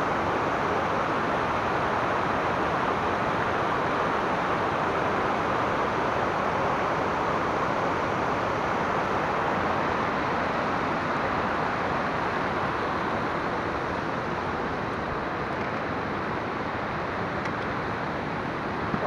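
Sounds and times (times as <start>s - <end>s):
water rushing over boulders: 0.0s - 19.0s.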